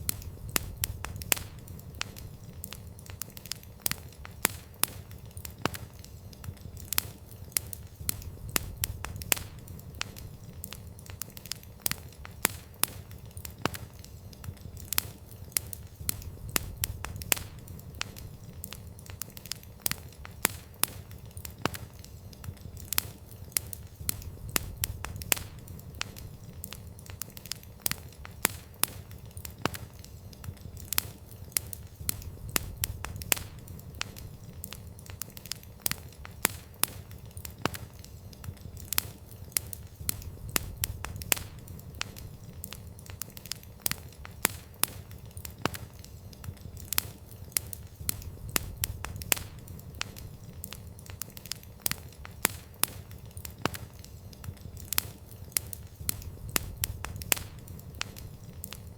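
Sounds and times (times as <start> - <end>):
campfire crackling and popping: 0.0 - 58.9
low rumble of flames: 0.0 - 58.9.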